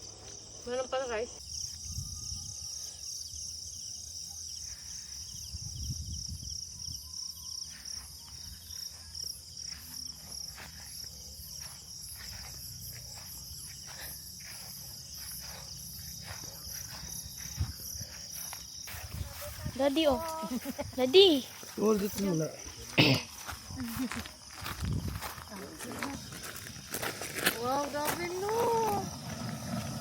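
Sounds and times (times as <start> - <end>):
insect chorus trilling: 0.0 - 30.0.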